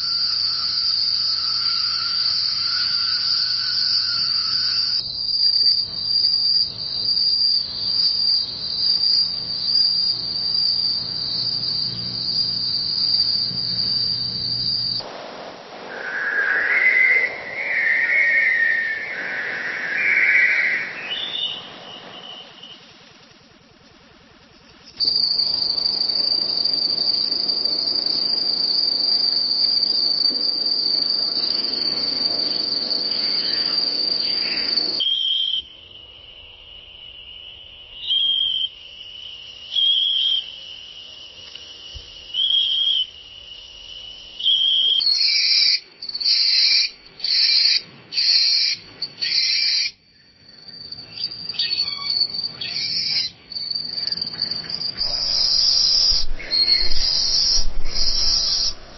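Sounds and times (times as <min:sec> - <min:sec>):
crickets trilling: 0:00.0 - 0:58.9
loud cricket chirps: 0:00.0 - 0:58.9.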